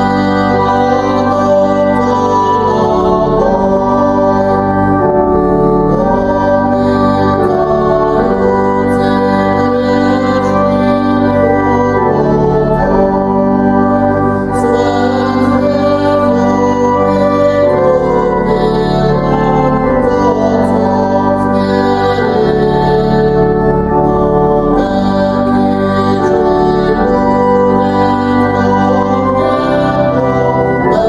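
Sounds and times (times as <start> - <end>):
organ playing sustained chords: 0.0 - 31.0.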